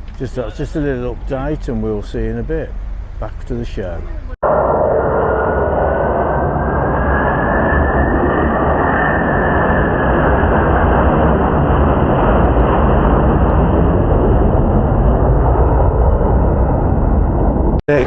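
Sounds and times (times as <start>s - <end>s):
aircraft engines rumbling: 0.0s - 18.0s.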